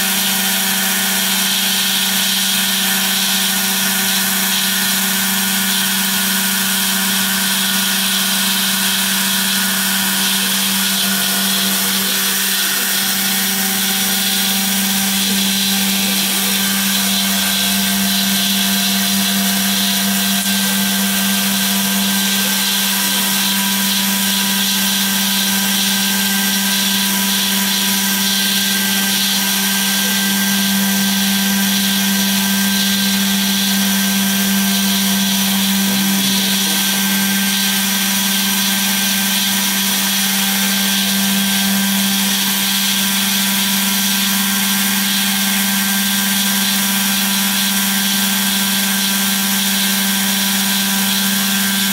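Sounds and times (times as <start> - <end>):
router spindle cutting foam: 0.0 - 51.9.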